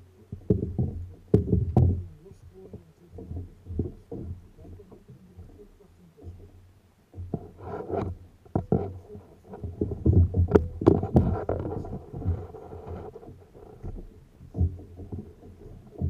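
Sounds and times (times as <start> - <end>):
water splashing around kayaks: 0.0 - 16.0
sharp knocks: 0.3 - 5.6, 7.1 - 16.0.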